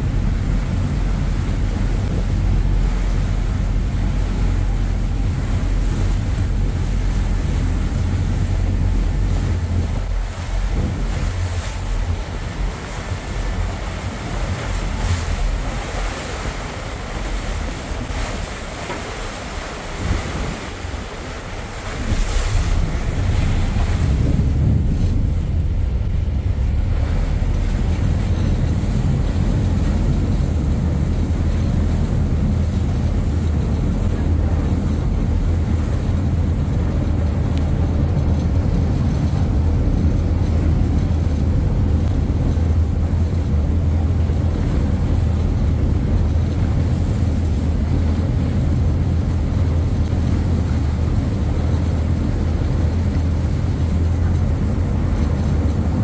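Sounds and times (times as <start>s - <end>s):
churning wake: 0.0s - 56.0s
ferry engine drone: 0.0s - 56.0s
wind buffeting microphone: 0.0s - 56.0s.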